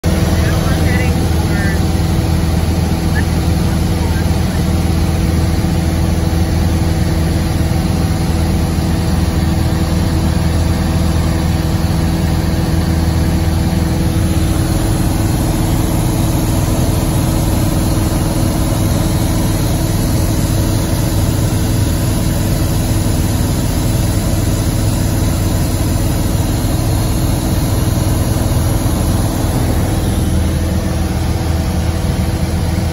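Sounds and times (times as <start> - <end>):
aircraft engines droning: 0.0 - 32.9.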